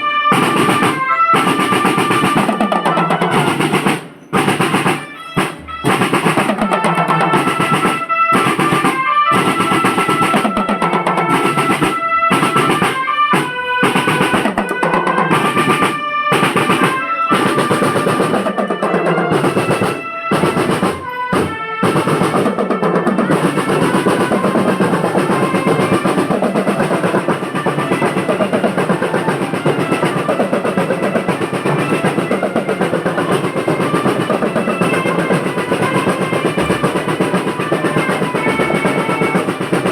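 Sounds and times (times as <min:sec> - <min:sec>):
held melody line: 0:00.0 - 0:39.9
snare drum rolls: 0:00.0 - 0:39.9.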